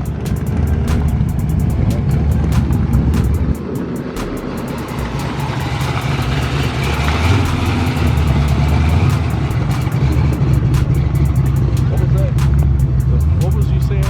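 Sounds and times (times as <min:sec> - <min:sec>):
car engine rumbling: 0:00.0 - 0:14.0
quick regular clicks: 0:00.0 - 0:14.0.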